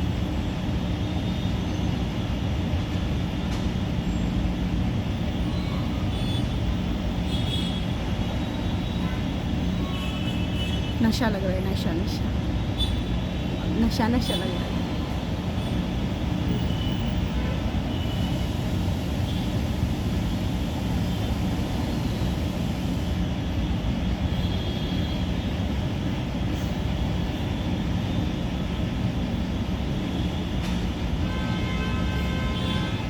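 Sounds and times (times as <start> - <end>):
heavy road traffic: 0.0 - 33.0.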